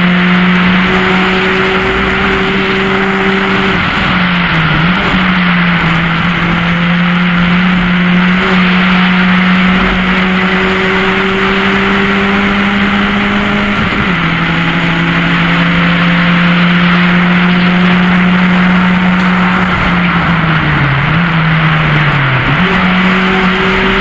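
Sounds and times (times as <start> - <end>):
race car engine running hard: 0.0 - 24.0
wind and road noise: 0.0 - 24.0.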